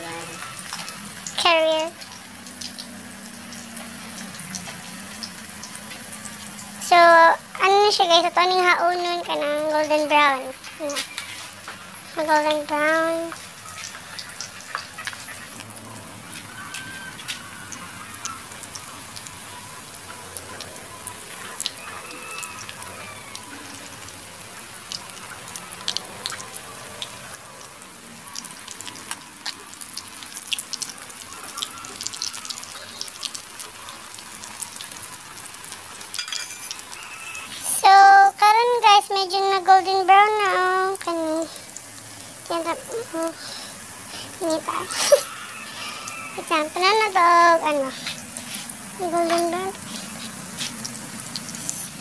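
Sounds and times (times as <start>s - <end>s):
fritters sizzling in hot oil: 0.0s - 52.0s.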